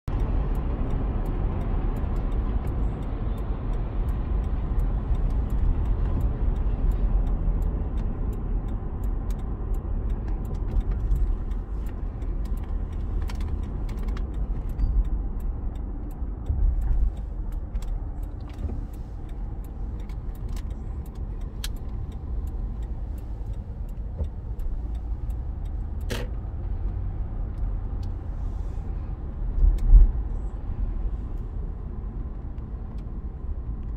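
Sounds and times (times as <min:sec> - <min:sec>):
car road noise rumble: 0:00.1 - 0:33.9.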